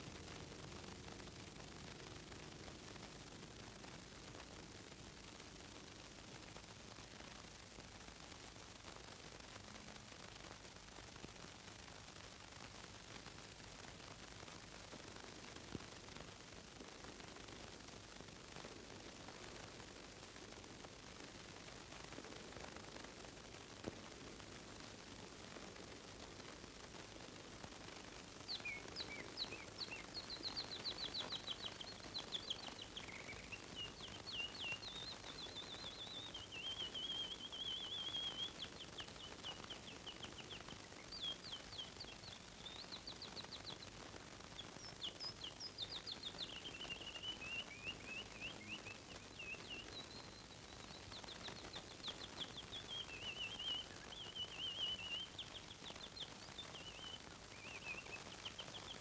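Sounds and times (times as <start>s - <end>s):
faint hiss: 0.0s - 59.0s
songbird chirps and trills: 8.8s - 59.0s.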